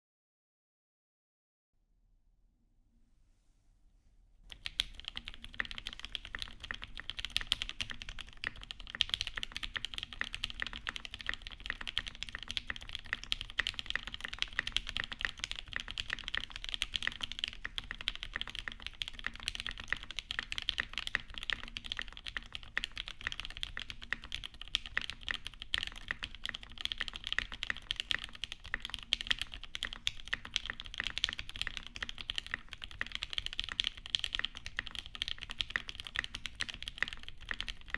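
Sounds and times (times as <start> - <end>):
mechanical keyboard typing: 4.5 - 37.9.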